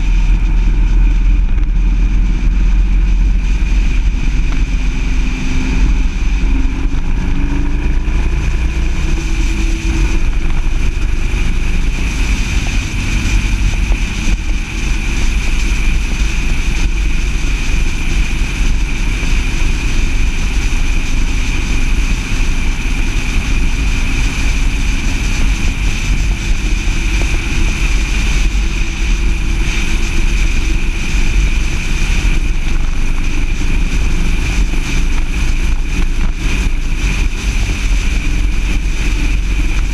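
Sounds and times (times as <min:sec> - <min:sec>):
car engine: 0:00.0 - 0:39.9
low wind rumble: 0:00.0 - 0:39.9
road noise: 0:00.0 - 0:39.9.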